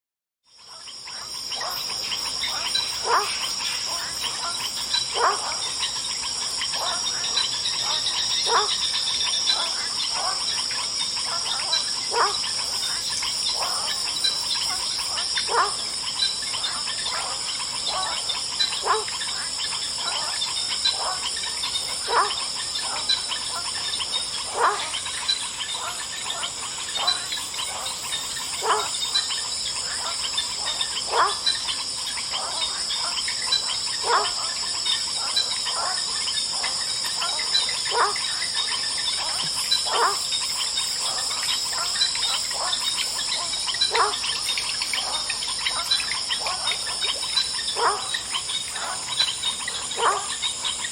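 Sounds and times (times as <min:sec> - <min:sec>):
high insect trill: 0:00.5 - 0:50.9.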